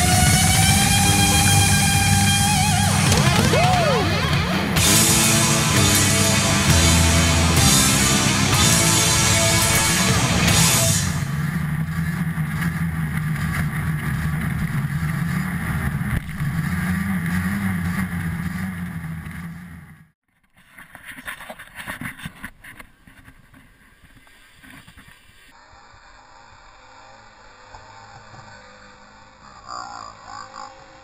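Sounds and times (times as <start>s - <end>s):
snowmobile engine running: 0.0s - 20.1s, 25.9s - 31.0s.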